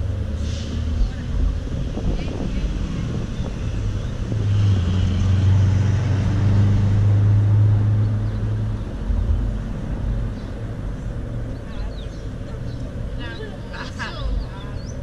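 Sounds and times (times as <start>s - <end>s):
street noise: 0.0s - 15.0s
vehicle engine humming: 0.0s - 15.0s.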